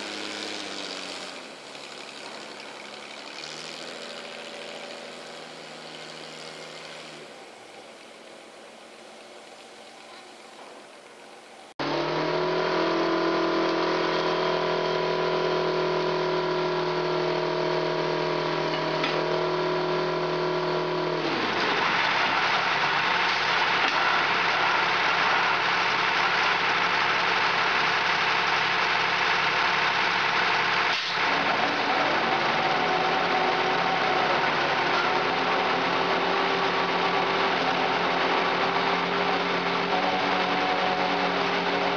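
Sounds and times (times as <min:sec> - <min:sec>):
heavy diesel engine running: 0:00.0 - 0:07.8, 0:11.8 - 0:41.9.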